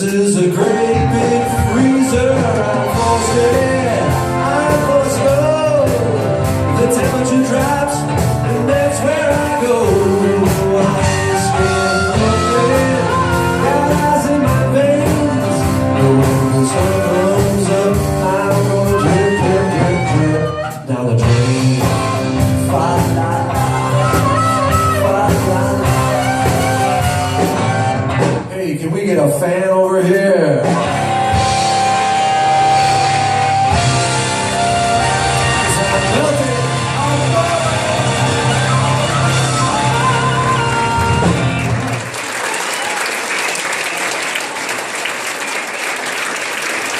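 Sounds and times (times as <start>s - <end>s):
person singing: 0.0s - 27.8s, 29.8s - 41.6s
electric guitar: 0.0s - 28.5s, 30.6s - 42.2s
live blues band: 0.0s - 44.8s.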